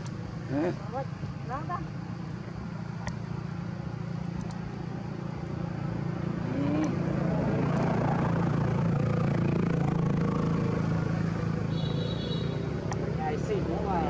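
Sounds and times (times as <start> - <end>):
motor engine hum: 0.0 - 14.0.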